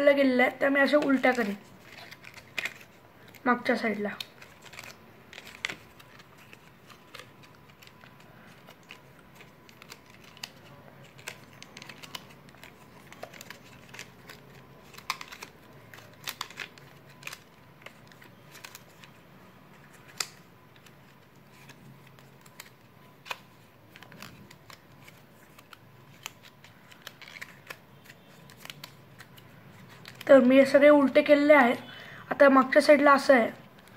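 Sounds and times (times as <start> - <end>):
paper crinkling: 0.6 - 31.3
small paper clicks: 0.8 - 19.2, 19.9 - 30.8.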